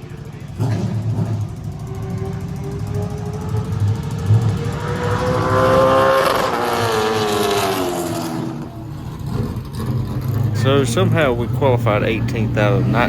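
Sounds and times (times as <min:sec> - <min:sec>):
race car engine passing: 0:00.0 - 0:13.0.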